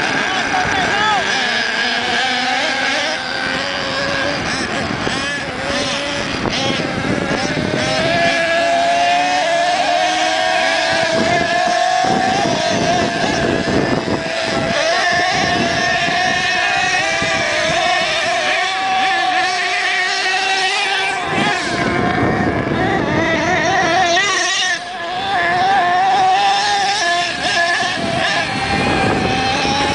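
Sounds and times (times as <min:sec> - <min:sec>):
nitro engine high buzz: 0:00.0 - 0:29.9.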